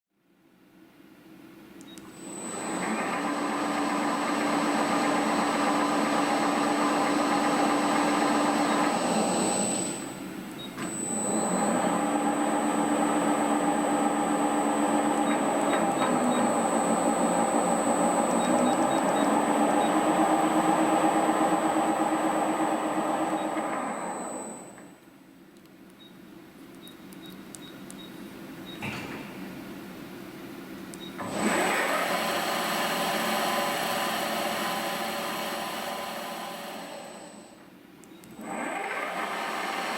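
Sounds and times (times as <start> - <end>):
milling machine hum with whine: 1.3 - 25.4, 27.0 - 39.9.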